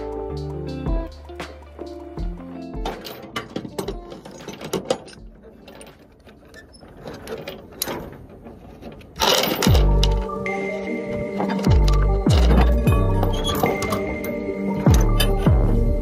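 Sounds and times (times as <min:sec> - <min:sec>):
steel chain clinking and clanking: 0:01.9 - 0:10.5, 0:11.1 - 0:15.6.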